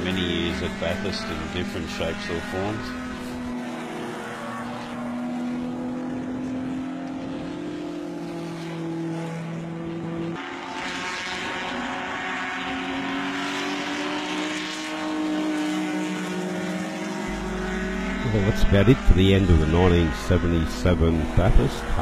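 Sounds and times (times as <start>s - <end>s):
racing car engines accelerating: 0.0s - 22.0s.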